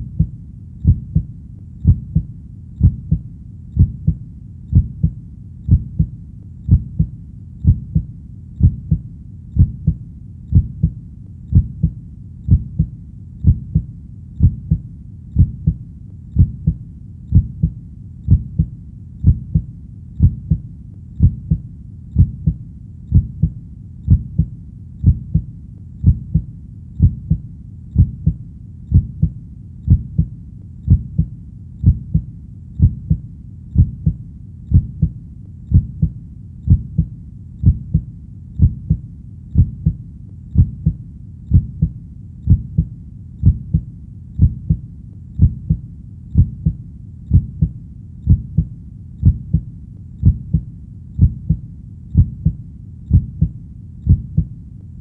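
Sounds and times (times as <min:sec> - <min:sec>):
heartbeat thumps: 0:00.0 - 0:54.6.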